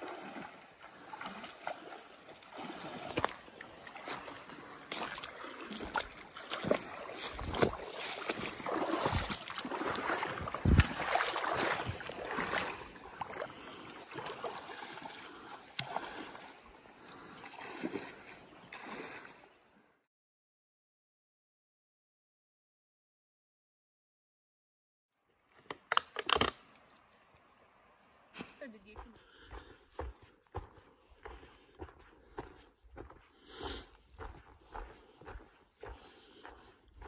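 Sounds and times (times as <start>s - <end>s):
feet wading through river: 0.0s - 20.0s, 25.2s - 37.0s.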